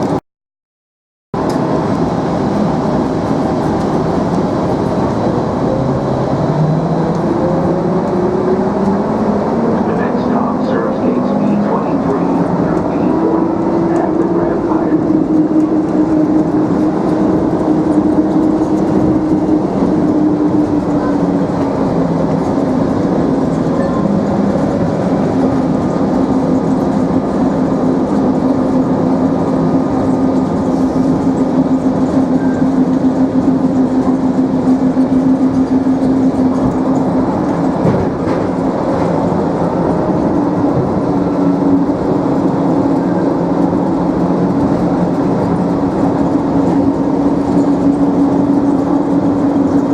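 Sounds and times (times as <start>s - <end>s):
train rumble: 1.4s - 49.9s.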